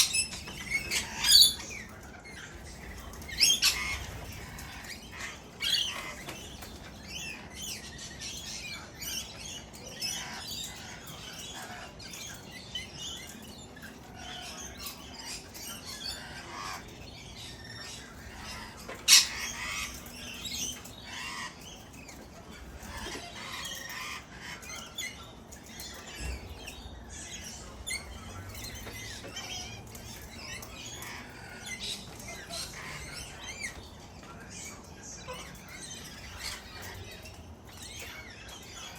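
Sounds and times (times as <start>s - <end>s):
parrots calling and squawking: 0.0s - 38.9s.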